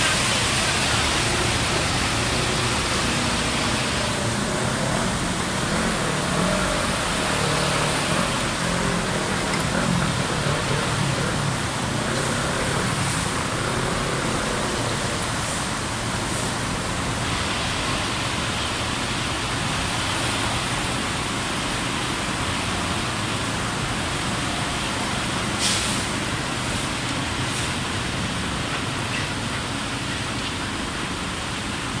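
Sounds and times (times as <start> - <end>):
motorcycle and car engines: 0.0 - 32.0
water washing around wheels: 0.0 - 32.0.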